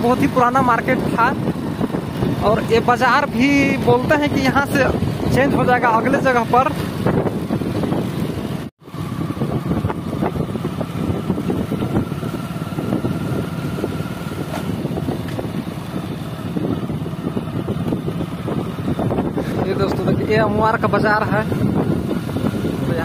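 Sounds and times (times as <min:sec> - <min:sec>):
steady low road rumble: 0:00.0 - 0:23.0
wind buffeting microphone: 0:00.0 - 0:23.0.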